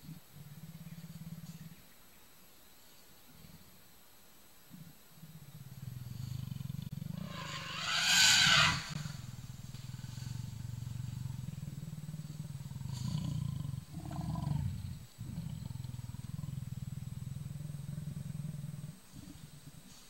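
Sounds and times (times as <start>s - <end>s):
leopard growling low: 0.0s - 2.0s, 4.7s - 20.0s.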